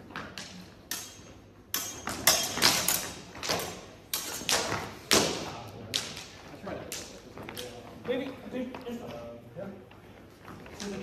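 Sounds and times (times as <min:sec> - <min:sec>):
swords clashing in a hall: 0:00.0 - 0:09.4, 0:10.1 - 0:11.0.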